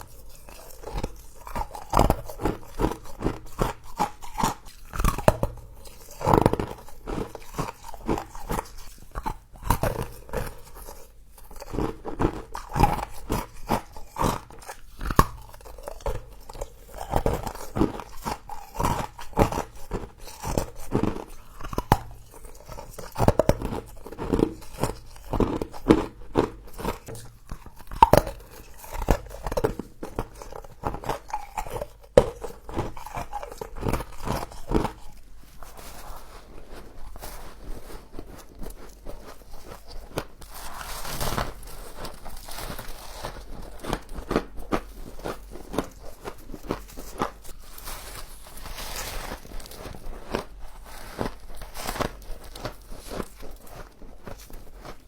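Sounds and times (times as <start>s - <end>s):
person chewing crunchy frost: 0.0s - 55.0s.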